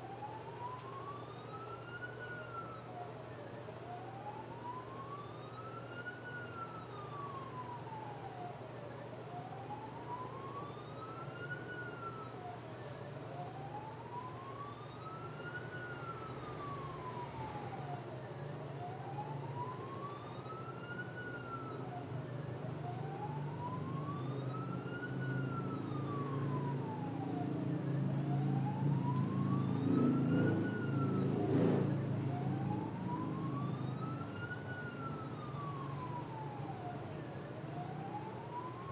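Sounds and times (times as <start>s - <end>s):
emergency vehicle siren wailing: 0.0s - 38.9s.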